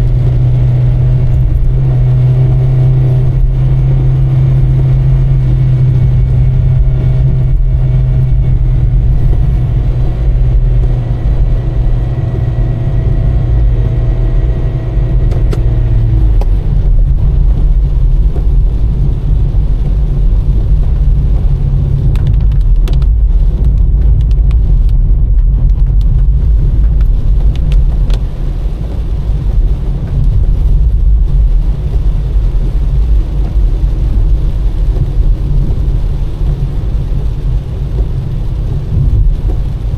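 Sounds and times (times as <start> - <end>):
car on wet road rumble: 0.0 - 39.9
engine hum: 0.0 - 39.9.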